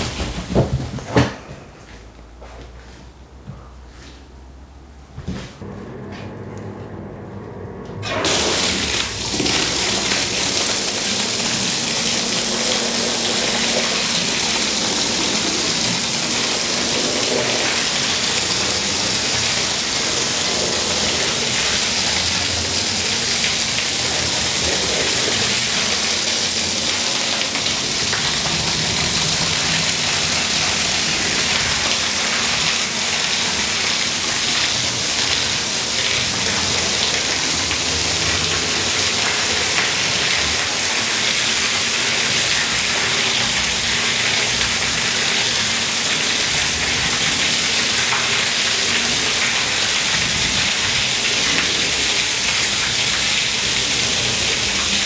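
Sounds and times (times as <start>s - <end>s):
water jet spraying rug: 8.0s - 55.0s.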